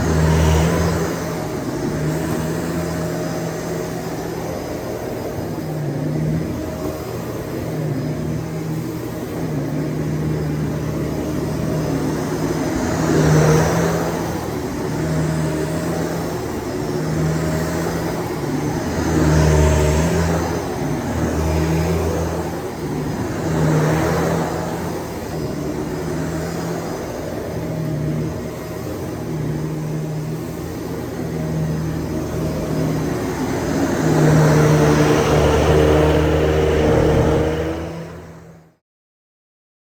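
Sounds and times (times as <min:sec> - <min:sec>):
vacuum cleaner running: 0:00.0 - 0:38.8.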